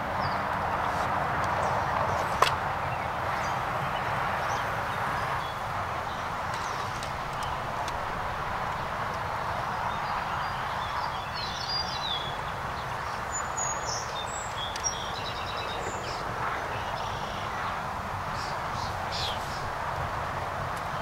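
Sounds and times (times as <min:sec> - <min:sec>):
outdoor background noise: 0:00.0 - 0:21.0
small birds chirping: 0:00.1 - 0:19.9.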